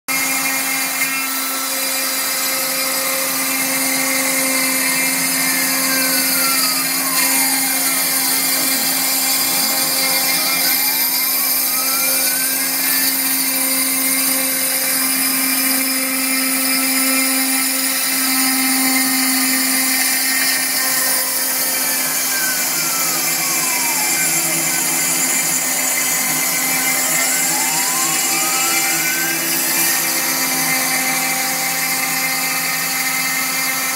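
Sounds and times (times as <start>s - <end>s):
cutting spindle whine: 0.1s - 33.9s
stepper motor tones gliding: 0.1s - 33.9s.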